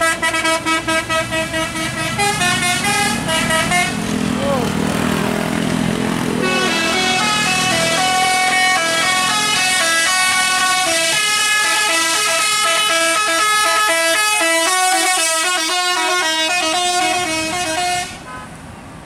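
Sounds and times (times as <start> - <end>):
multi-tone musical air horn: 0.0 - 4.0, 6.4 - 18.6.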